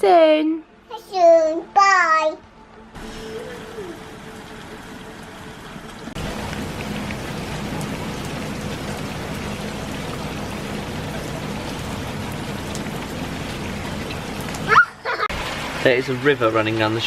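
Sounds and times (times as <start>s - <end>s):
heavy rain pouring: 3.0s - 17.0s.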